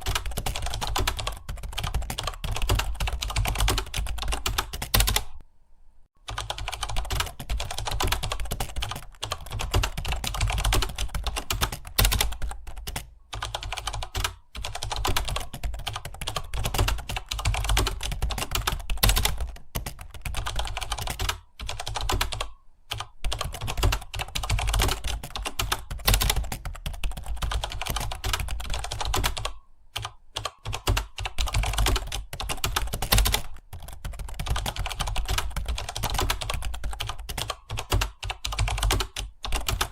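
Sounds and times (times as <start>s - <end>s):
fast typing on keyboard: 0.0s - 5.4s, 6.2s - 39.9s.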